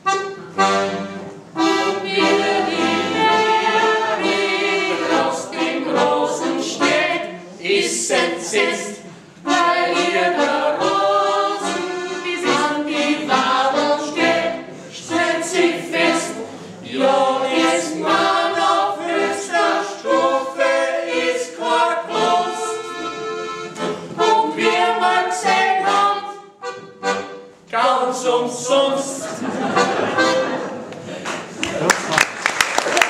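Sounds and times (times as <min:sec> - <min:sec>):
group of voices singing: 0:01.8 - 0:26.5, 0:27.7 - 0:29.5.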